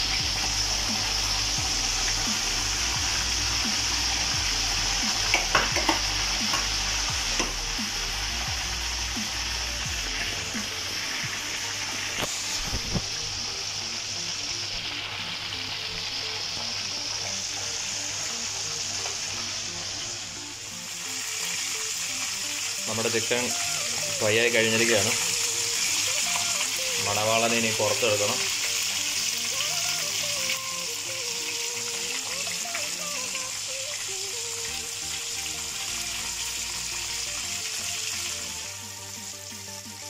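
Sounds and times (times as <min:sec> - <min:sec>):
chicken sizzling in hot oil: 0:00.0 - 0:40.0.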